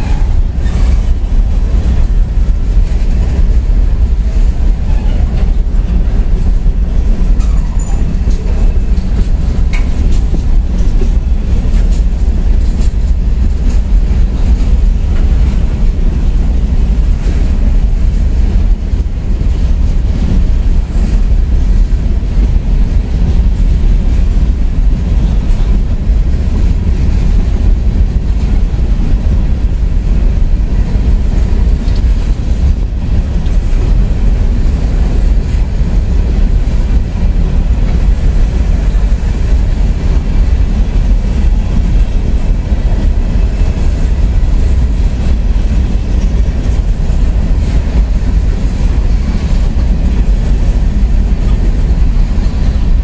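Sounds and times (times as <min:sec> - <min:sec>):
freight train rumbling past: 0:00.0 - 0:53.0
wheels clattering on rails: 0:00.0 - 0:53.0.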